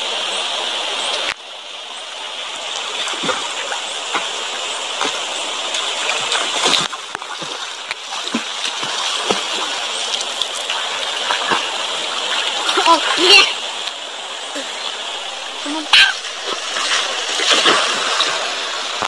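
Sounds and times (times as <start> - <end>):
moving water rushing: 0.0 - 19.0
swimmers splashing in water: 2.9 - 13.8, 14.5 - 19.0.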